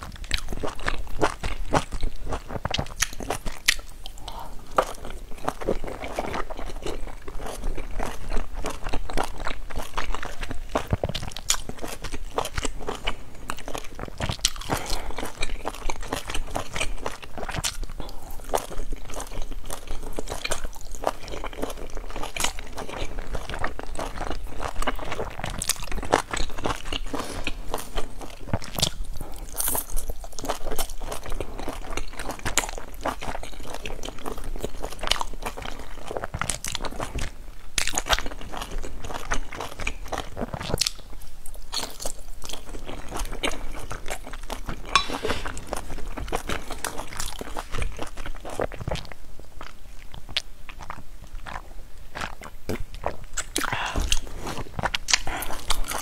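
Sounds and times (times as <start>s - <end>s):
chewing with crisp crunches: 0.0s - 56.0s.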